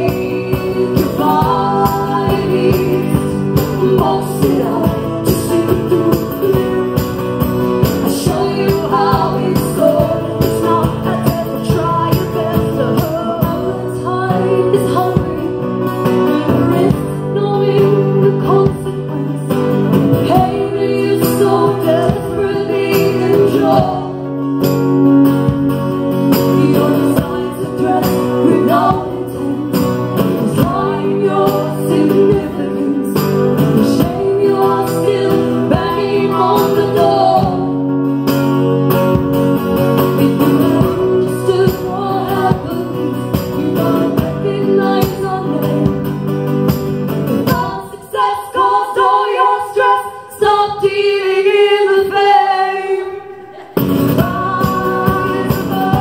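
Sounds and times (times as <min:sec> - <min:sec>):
women singing together: 0:00.0 - 0:15.6, 0:16.2 - 0:24.3, 0:26.2 - 0:37.8, 0:40.1 - 0:46.2, 0:47.4 - 0:56.0
strummed acoustic guitars: 0:00.0 - 0:56.0.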